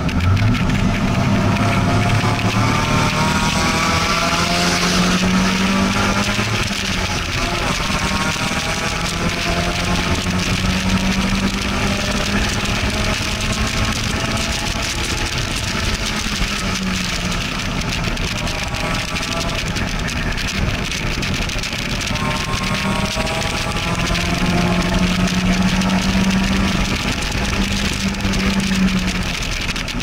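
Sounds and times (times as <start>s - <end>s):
car engine under load: 0.0s - 30.0s
wind and road noise: 0.0s - 30.0s.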